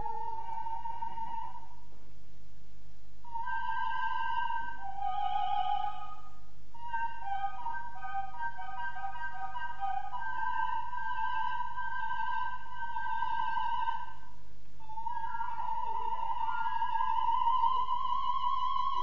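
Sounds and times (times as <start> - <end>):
faint hum: 0.0 - 19.0
soprano singing high notes: 3.2 - 19.0.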